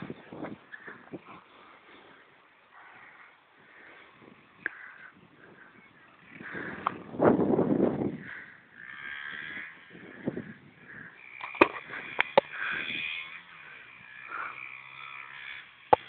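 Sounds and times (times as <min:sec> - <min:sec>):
distant motorbike engine: 0:00.0 - 0:16.0.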